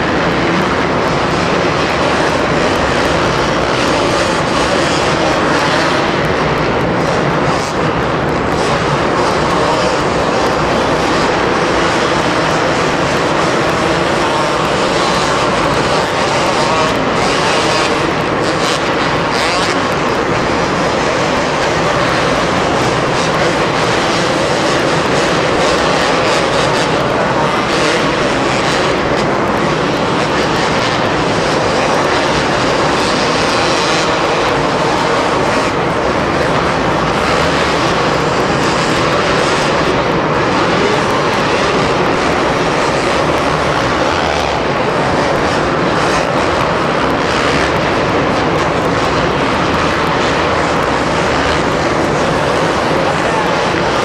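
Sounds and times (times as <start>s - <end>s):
motocross motorcycles revving: 0.0s - 54.0s.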